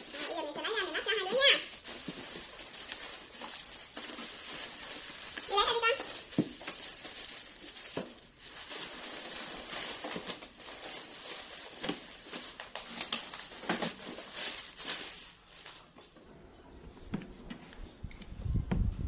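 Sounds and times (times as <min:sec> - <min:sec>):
plastic wrapping crinkling: 0:00.0 - 0:16.1.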